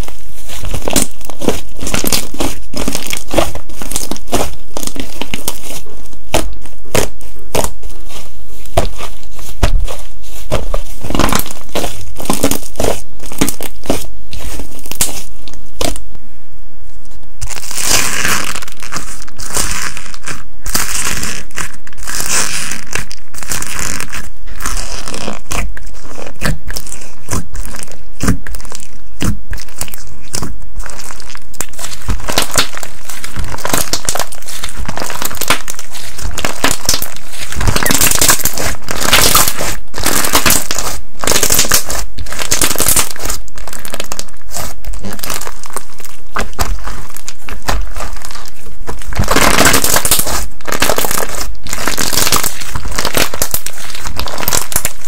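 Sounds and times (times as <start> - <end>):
hands squishing slime: 0.0 - 16.1, 17.4 - 55.0.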